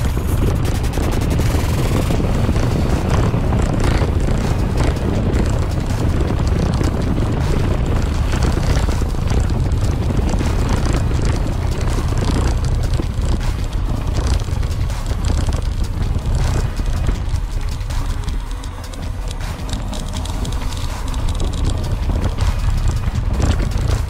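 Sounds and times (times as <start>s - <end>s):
bike clicks and rattles: 0.0s - 24.0s
wind on microphone: 0.0s - 24.0s
tyres rolling over stones: 0.6s - 24.0s.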